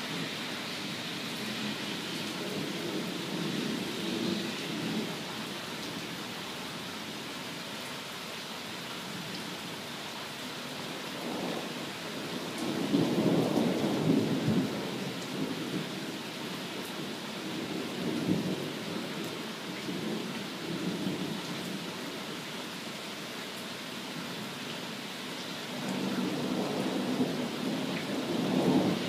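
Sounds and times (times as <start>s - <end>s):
rain on lawn and patio: 0.0s - 29.0s.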